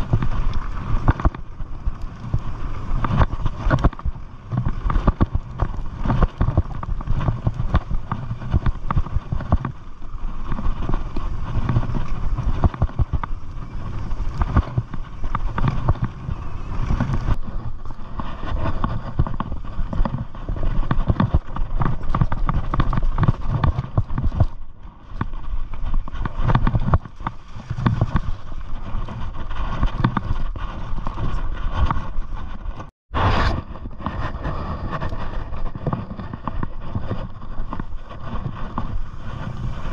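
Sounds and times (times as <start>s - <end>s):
tyres crunching on dirt: 0.0s - 33.3s
bike rattling over bumps: 0.0s - 39.9s
steady low rumble: 0.0s - 39.9s.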